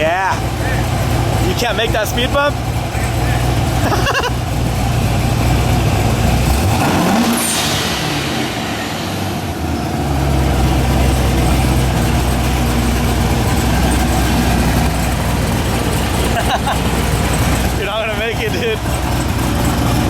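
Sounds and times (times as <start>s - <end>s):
car engine revving under load: 0.0s - 20.0s.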